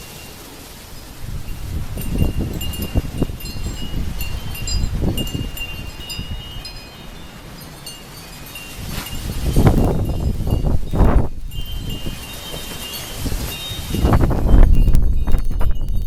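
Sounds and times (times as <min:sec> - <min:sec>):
wind buffeting microphone: 0:00.9 - 0:16.0
wind chimes jangling: 0:01.0 - 0:16.0.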